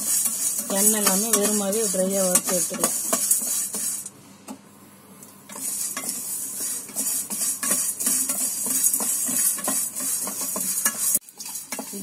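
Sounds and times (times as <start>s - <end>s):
spatula scraping a dry metal pan: 0.0s - 4.1s, 5.5s - 12.0s.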